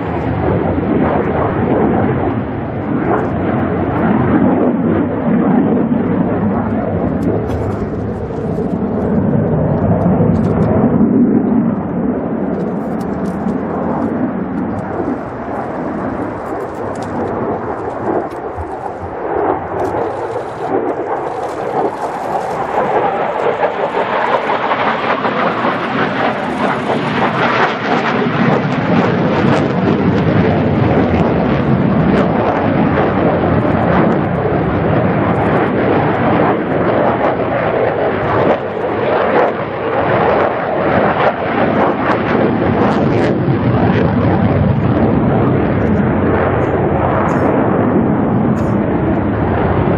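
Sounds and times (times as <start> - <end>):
jet engine rumble: 0.0 - 49.9.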